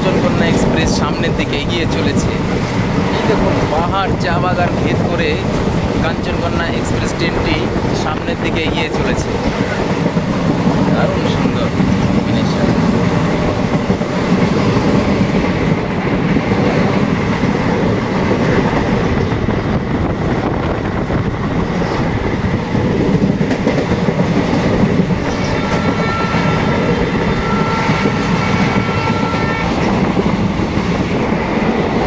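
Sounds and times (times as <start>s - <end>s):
train coach rumbling: 0.0s - 32.0s.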